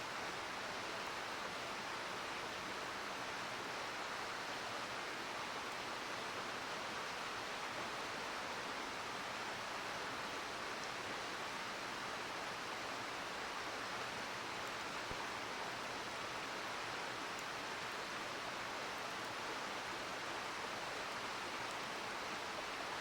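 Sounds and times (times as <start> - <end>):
mountain stream flowing: 0.0 - 23.0.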